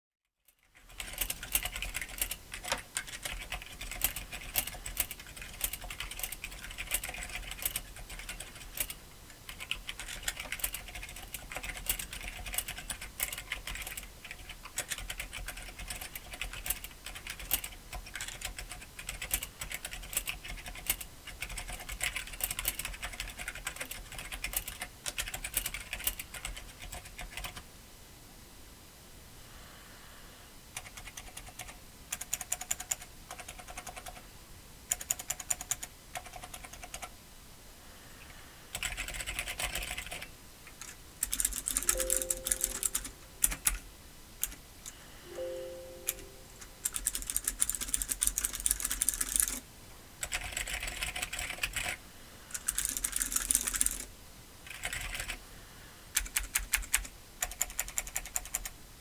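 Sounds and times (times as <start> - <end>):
mechanical keyboard typing: 0.6 - 27.6, 30.8 - 34.2, 34.9 - 37.2, 38.7 - 43.8, 44.4 - 44.6, 46.1 - 49.6, 50.2 - 54.1, 54.7 - 55.4, 56.2 - 58.8.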